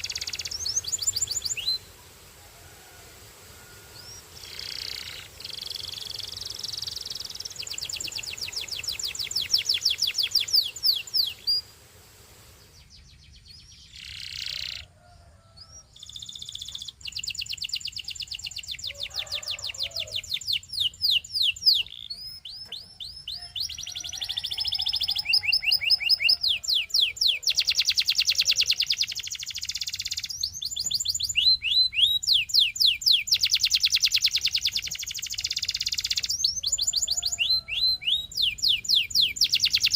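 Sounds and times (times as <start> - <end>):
canary singing fast trills: 0.0 - 2.2, 3.7 - 39.9.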